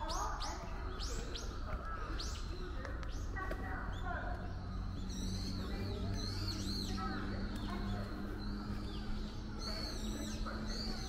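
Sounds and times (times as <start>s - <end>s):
low steady hum: 0.0s - 11.0s
small birds chirping: 0.0s - 11.0s.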